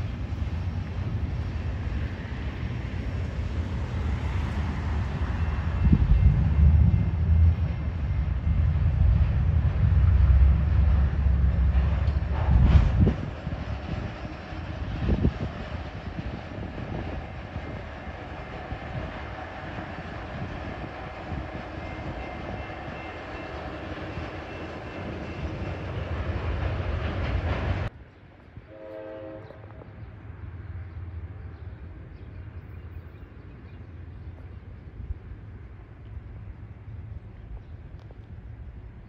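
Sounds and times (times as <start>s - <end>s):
freight train rolling on rails: 0.0s - 39.0s.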